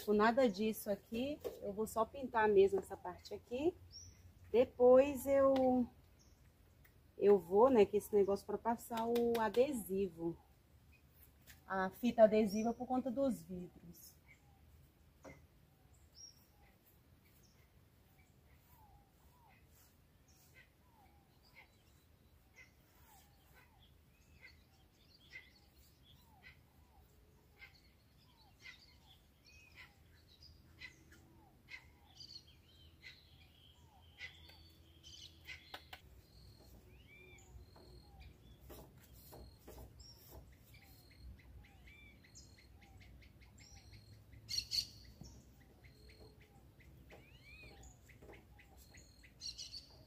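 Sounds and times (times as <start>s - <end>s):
faint birdsong chirps: 0.0s - 50.0s.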